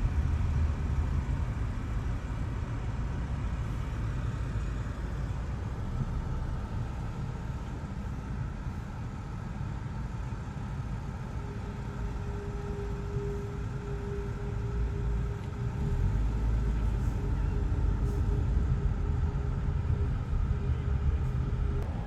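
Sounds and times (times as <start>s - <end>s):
faint steady whine: 0.0s - 22.0s
low engine rumble: 0.0s - 22.0s.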